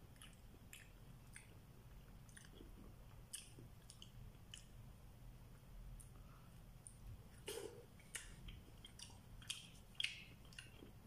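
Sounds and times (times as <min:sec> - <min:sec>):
low steady hum: 0:00.0 - 0:11.0
person chewing bread: 0:00.0 - 0:11.0.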